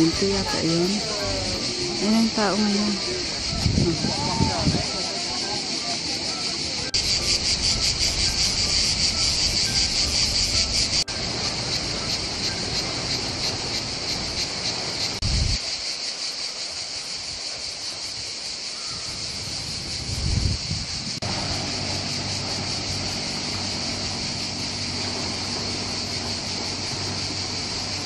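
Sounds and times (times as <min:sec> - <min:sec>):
wind rumble on microphone: 0:00.0 - 0:05.0, 0:07.0 - 0:15.6, 0:18.9 - 0:28.0
cicadas buzzing: 0:00.0 - 0:28.0.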